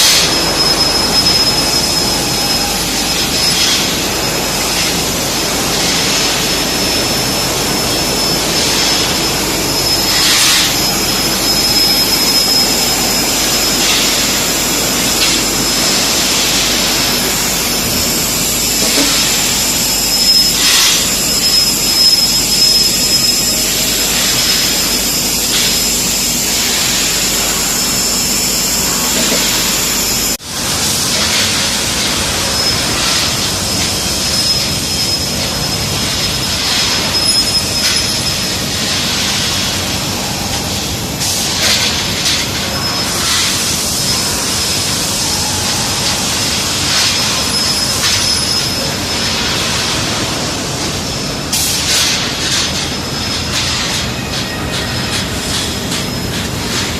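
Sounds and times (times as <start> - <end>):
painting machine hissing: 0.0 - 50.5
thin high whine: 0.0 - 56.9.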